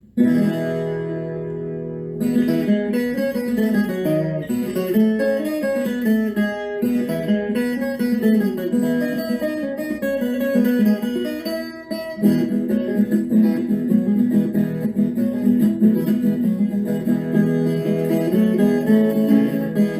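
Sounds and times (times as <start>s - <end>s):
acoustic guitar playing: 0.0s - 19.9s.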